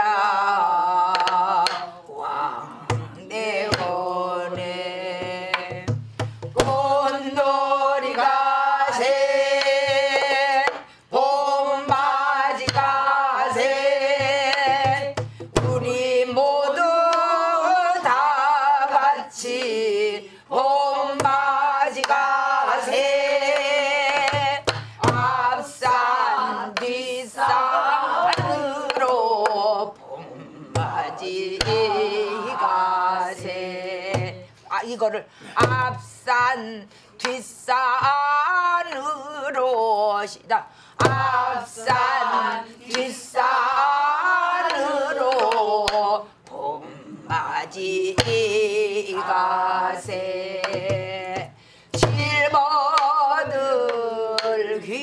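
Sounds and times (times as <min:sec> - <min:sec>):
woman singing with vibrato: 0:00.0 - 0:55.0.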